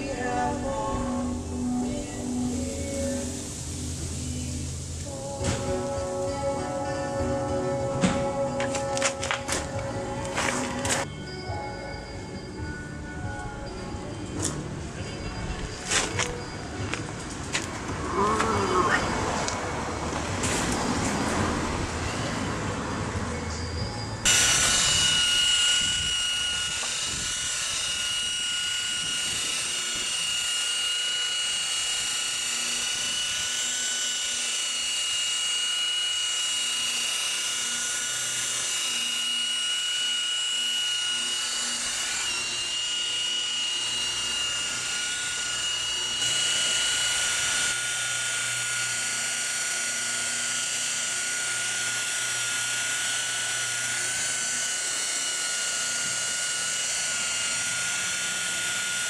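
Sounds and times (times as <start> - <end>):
rotary polisher motor whine: 0.0 - 59.0.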